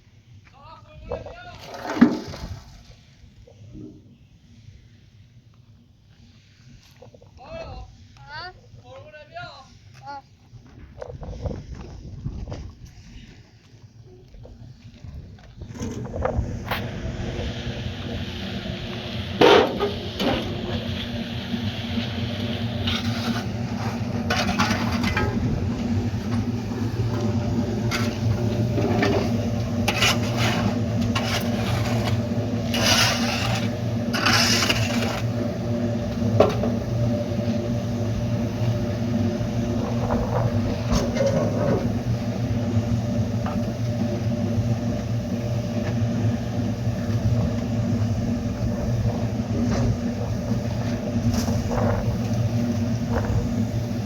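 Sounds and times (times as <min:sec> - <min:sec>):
motor droning: 0:09.8 - 0:54.0.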